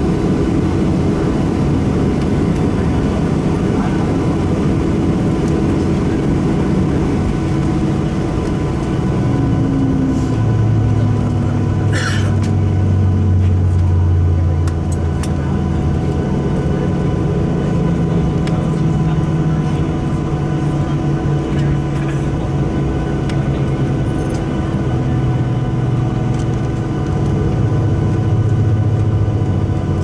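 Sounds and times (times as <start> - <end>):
aircraft engines droning: 0.0 - 30.0
deeper hum: 0.0 - 30.0.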